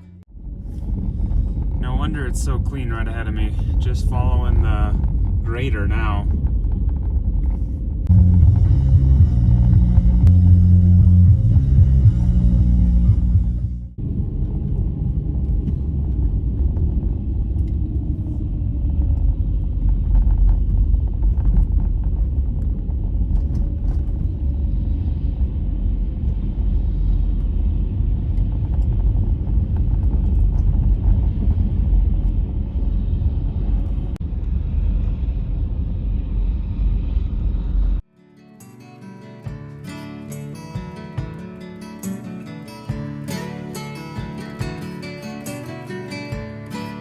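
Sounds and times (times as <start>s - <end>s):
car road rumble from inside: 0.0s - 38.0s.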